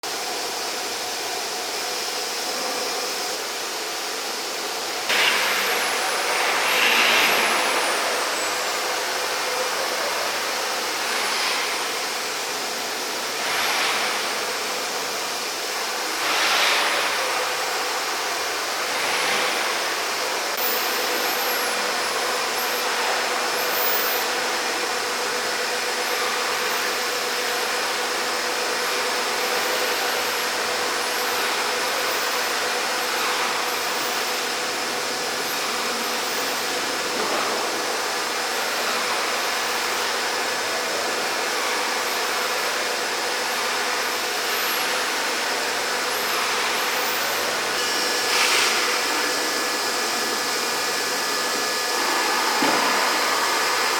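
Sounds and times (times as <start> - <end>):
high machine whines: 0.1 - 53.9
milling machine drone: 0.1 - 53.9.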